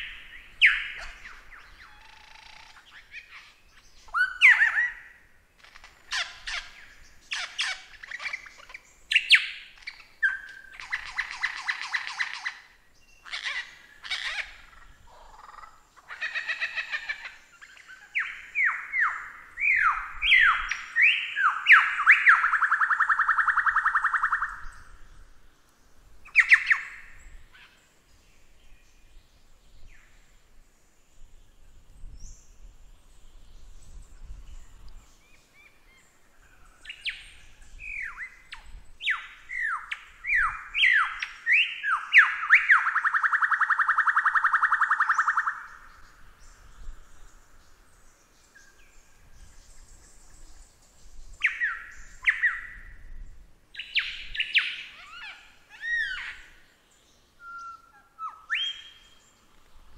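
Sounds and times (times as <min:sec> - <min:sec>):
lyrebird singing: 0:00.0 - 0:25.0, 0:26.2 - 0:27.8, 0:33.8 - 0:59.9.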